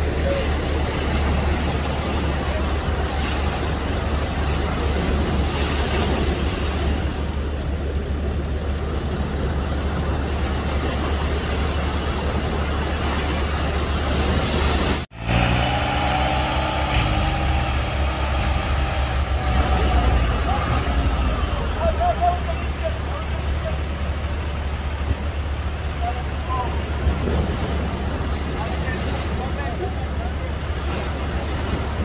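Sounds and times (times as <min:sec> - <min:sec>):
engine idling: 0:00.0 - 0:14.4, 0:15.6 - 0:32.0
surf rushing: 0:00.0 - 0:32.0.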